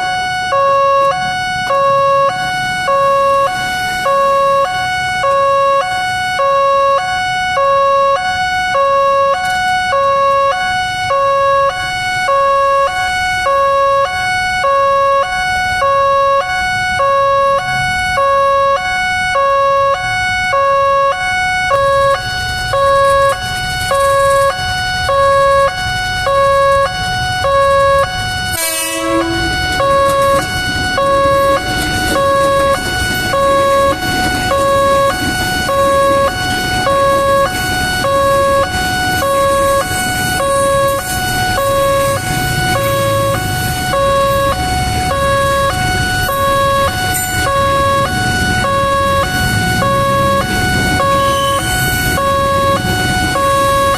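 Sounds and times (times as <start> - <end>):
two-tone crossing alarm chime: 0.0 - 53.9.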